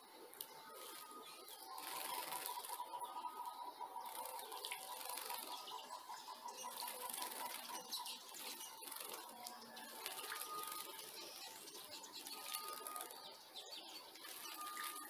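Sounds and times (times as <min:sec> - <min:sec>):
small birds chirping: 0:00.0 - 0:15.0
wing flutters: 0:00.3 - 0:15.0.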